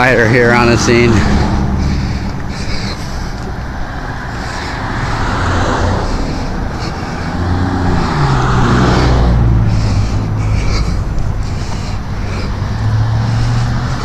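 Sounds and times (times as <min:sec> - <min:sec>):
vehicle engine low hum: 0:00.0 - 0:14.0
vehicles passing tyre noise: 0:00.0 - 0:14.0.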